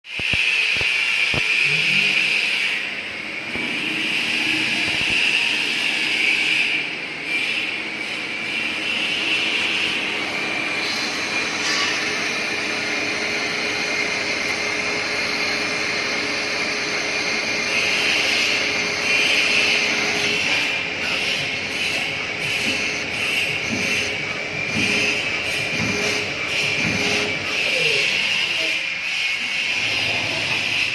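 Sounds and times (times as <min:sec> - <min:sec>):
lathe whirring: 0:00.2 - 0:30.9.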